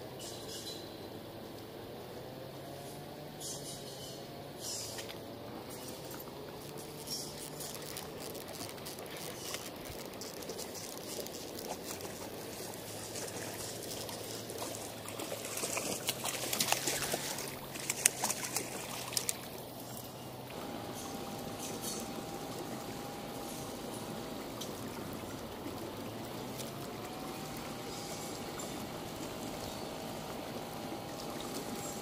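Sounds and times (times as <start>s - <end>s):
fish splashing in water: 5.7s - 32.0s.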